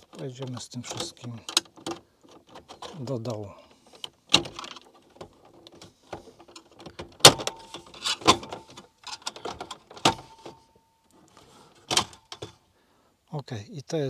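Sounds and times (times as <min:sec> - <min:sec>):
plastic rattling and scraping: 0:00.0 - 0:12.6.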